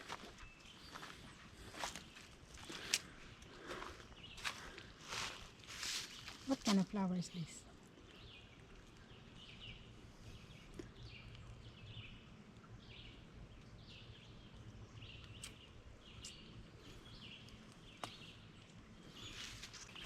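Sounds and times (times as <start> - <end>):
low steady background: 0.0 - 20.0.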